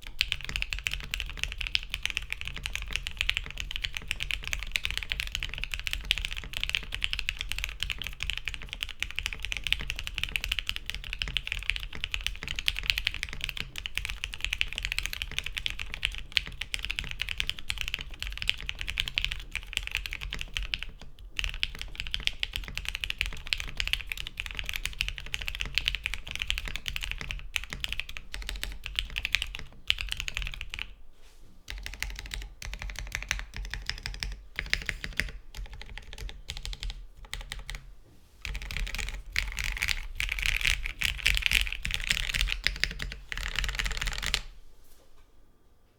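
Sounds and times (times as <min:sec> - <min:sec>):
fast typing on mechanical keyboard: 0:00.0 - 0:31.0, 0:31.7 - 0:37.8, 0:38.4 - 0:44.5.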